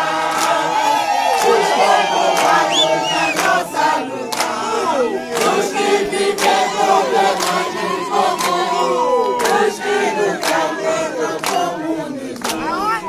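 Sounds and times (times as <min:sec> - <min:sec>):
crowd singing and chanting: 0:00.0 - 0:13.0.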